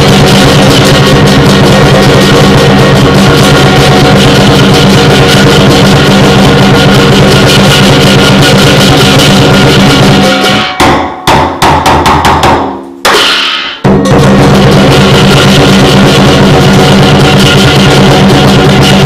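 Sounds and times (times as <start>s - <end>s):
hand cymbals crashing: 0.0s - 11.6s, 12.6s - 19.0s
drum beat: 0.0s - 12.8s, 13.8s - 19.0s.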